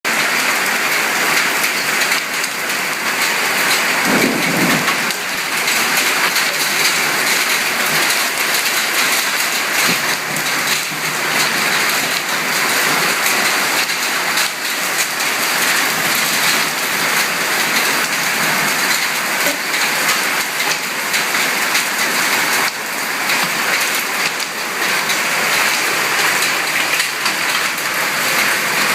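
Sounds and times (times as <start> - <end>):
hailstones pelting down: 0.1 - 28.9.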